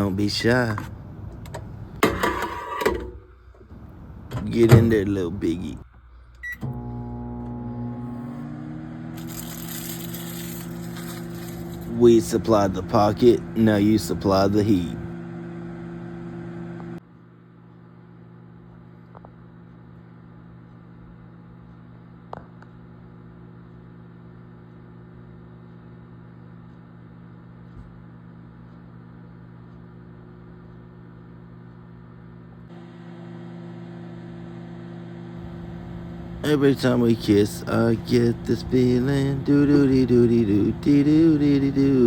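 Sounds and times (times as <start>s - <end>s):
microwave oven humming: 0.0s - 42.0s.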